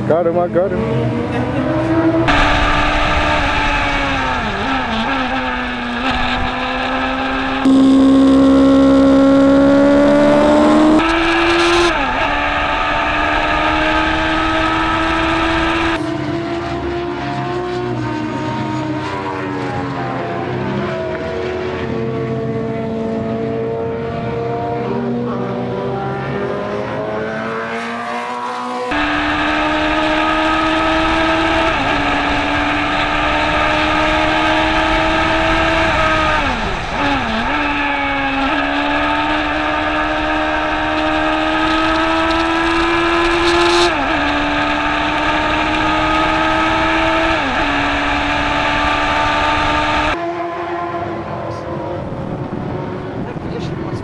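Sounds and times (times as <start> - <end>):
race car engine at full throttle: 0.0 - 54.0
race cars passing trackside: 0.0 - 54.0.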